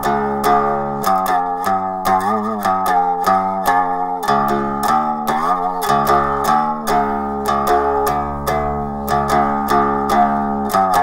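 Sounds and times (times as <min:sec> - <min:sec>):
plucked one-string diddley bow: 0:00.0 - 0:11.0.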